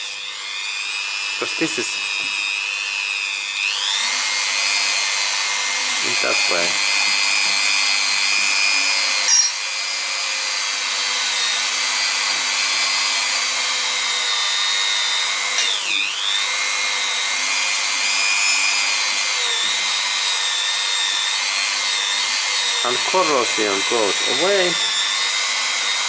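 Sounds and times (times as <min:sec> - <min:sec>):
rotary tool high whine: 0:00.0 - 0:26.0.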